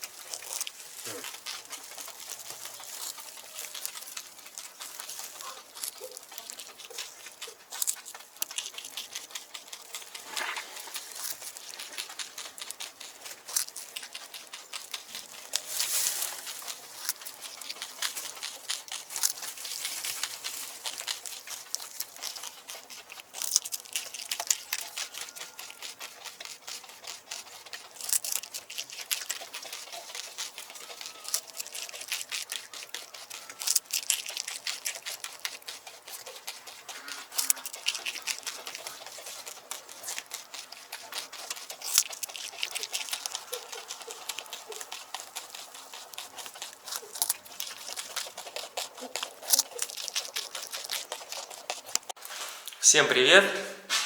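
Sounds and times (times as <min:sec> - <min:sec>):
straw rustling and crackling: 0:00.0 - 0:53.0.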